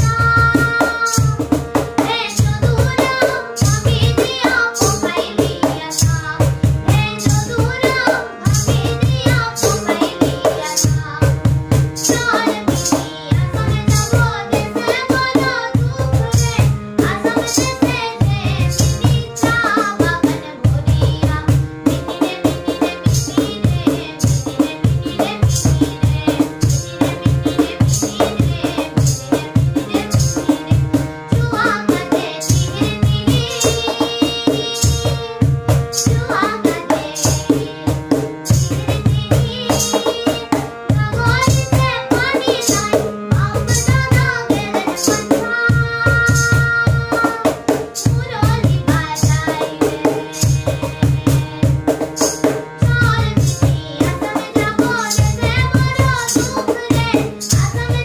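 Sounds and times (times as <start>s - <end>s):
cajon played by hand: 0.0s - 58.0s
girl singing: 0.0s - 58.0s
harmonium chords: 0.0s - 58.0s.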